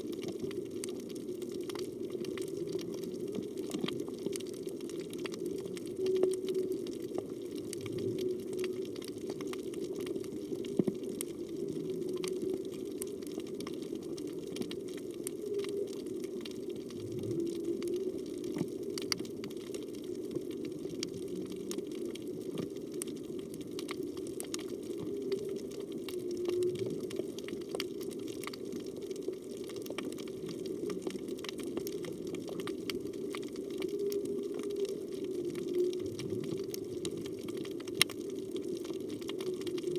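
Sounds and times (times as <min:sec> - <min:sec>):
underwater water noise: 0:00.0 - 0:39.9.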